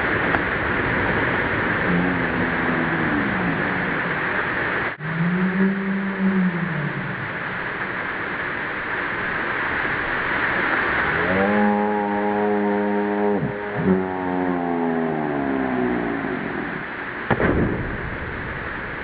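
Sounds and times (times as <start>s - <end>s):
low droning tone: 0.0s - 19.0s
waterfall rushing: 0.0s - 19.0s.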